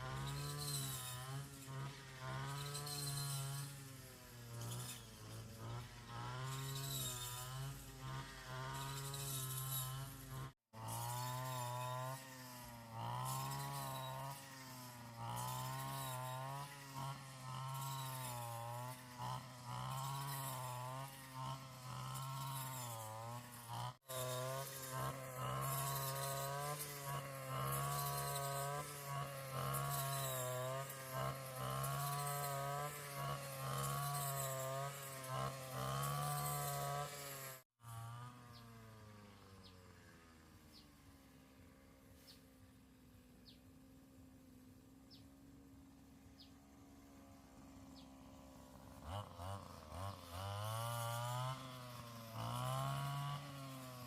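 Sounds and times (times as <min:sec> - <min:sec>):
small petrol engine running: 0:00.0 - 0:54.0.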